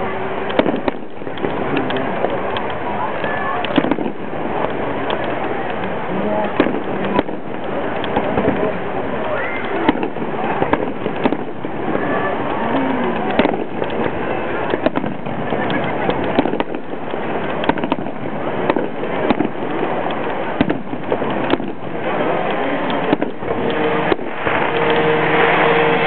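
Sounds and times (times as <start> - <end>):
firework shells bursting: 0.0 - 26.0
noisy background: 0.0 - 26.0.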